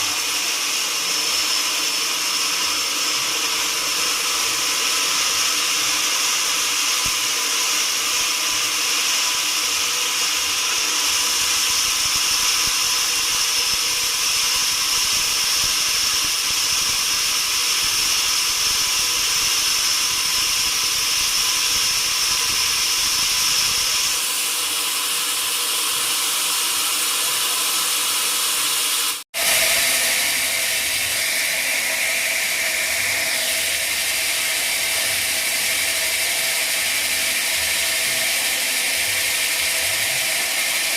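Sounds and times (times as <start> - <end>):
sawmill saw running: 0.0 - 40.9.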